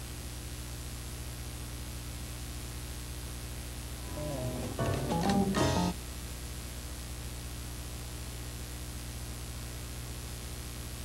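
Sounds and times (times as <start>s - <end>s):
videotape hiss: 0.0s - 11.0s.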